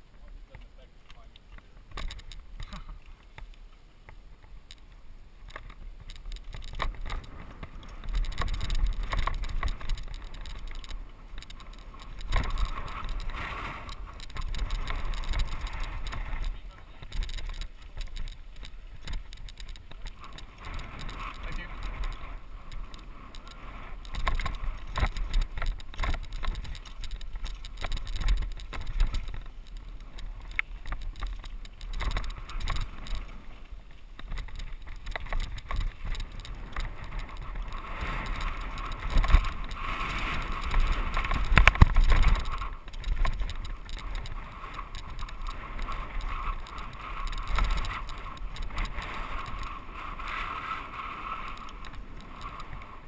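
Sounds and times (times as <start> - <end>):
bike clicks and knocks over bumps: 0.0 - 53.0
bike tyres on dirt trail: 0.0 - 53.0.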